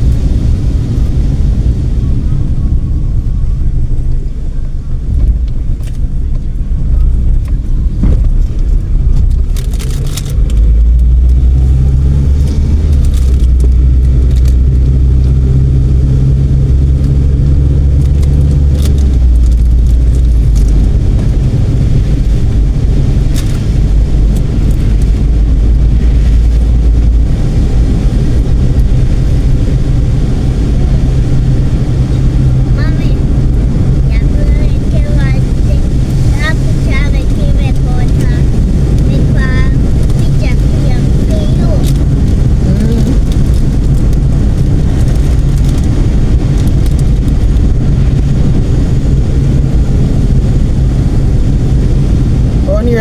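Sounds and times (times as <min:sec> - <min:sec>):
car engine and road drone: 0:00.0 - 0:53.0.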